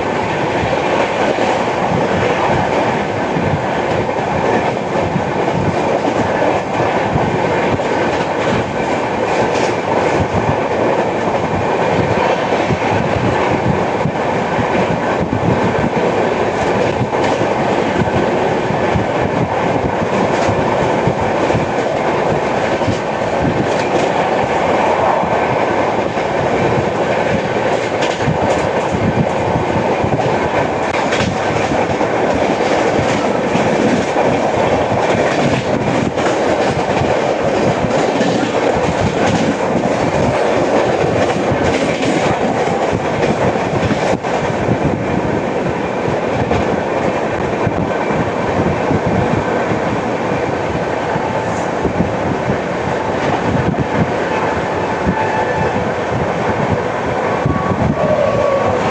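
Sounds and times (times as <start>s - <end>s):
train wheels clattering on track: 0.0s - 58.9s.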